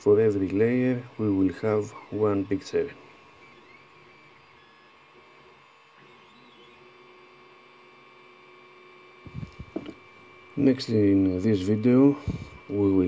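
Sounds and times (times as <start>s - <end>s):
printer humming with whines: 0.0s - 13.0s.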